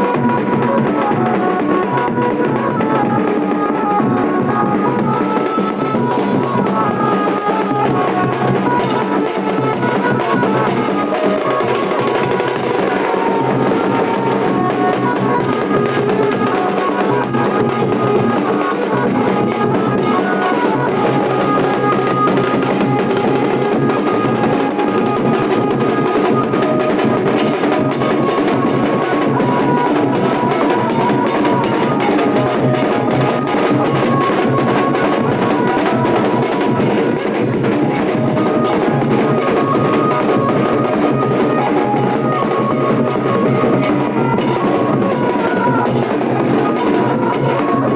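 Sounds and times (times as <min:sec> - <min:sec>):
dhol drumming: 0:00.0 - 0:47.9
pitched melody line: 0:00.0 - 0:47.9.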